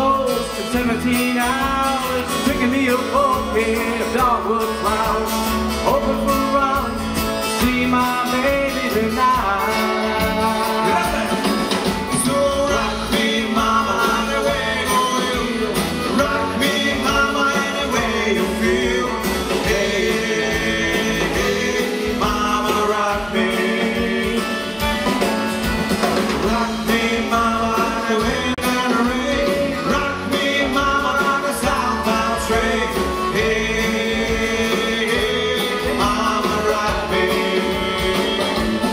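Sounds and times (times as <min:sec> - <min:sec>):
country song with guitar: 0:00.0 - 0:38.9.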